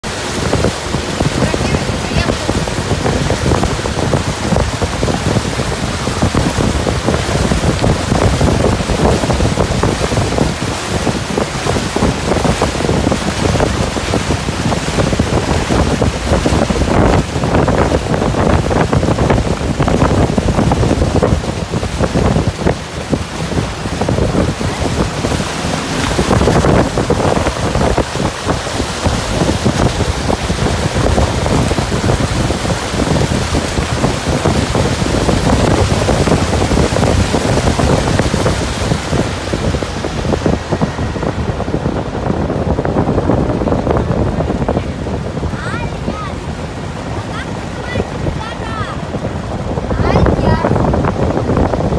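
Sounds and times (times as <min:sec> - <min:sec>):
water rushing past boat: 0:00.0 - 0:51.9
wind buffeting microphone: 0:00.0 - 0:51.9.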